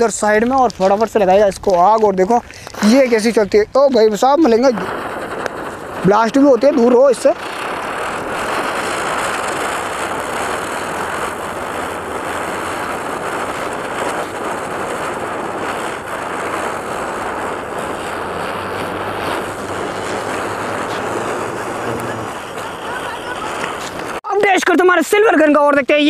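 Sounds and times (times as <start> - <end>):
spinner firework hissing: 0.0 - 24.2.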